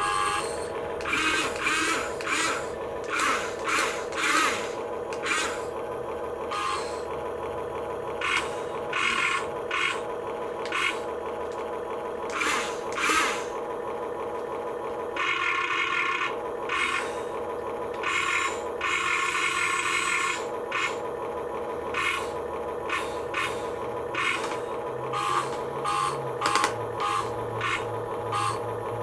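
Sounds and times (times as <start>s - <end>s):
toy gear motors whining: 0.0s - 5.8s, 6.4s - 7.2s, 8.1s - 11.6s, 12.2s - 13.6s, 15.1s - 29.0s
electronic engine sound hum: 0.0s - 29.0s.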